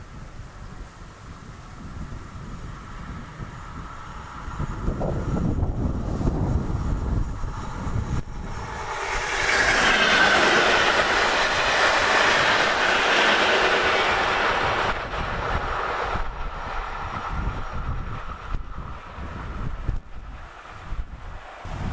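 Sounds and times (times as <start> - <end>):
electric train passing: 0.0 - 21.9.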